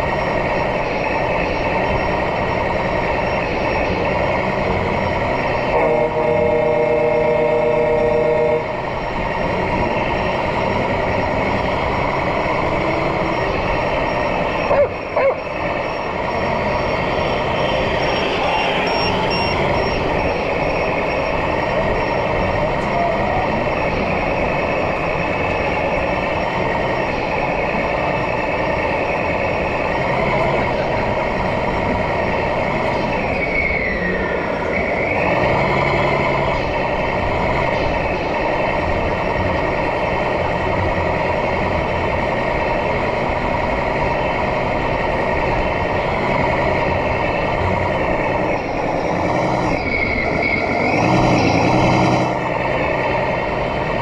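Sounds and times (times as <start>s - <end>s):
crowd chatter: 0.0s - 54.0s
high whine: 0.0s - 54.0s
model truck diesel engine sound: 0.0s - 54.0s.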